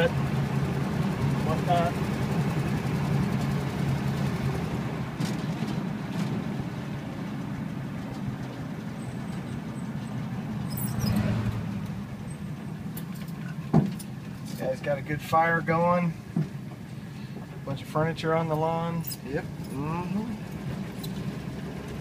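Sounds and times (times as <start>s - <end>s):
car engine running: 0.0s - 22.0s
road noise: 0.0s - 22.0s.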